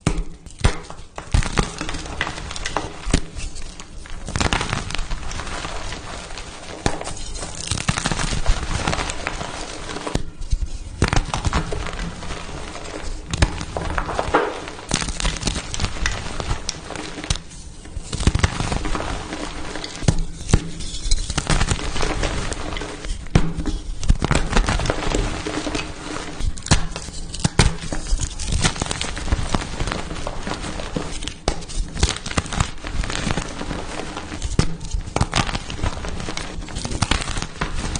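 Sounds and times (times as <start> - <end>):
chalk blocks crunching: 0.4 - 37.9.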